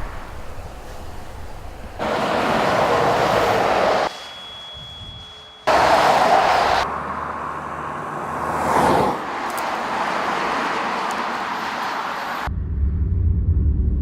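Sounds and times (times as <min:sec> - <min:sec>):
vehicles driving past: 0:00.0 - 0:04.1, 0:05.7 - 0:12.8.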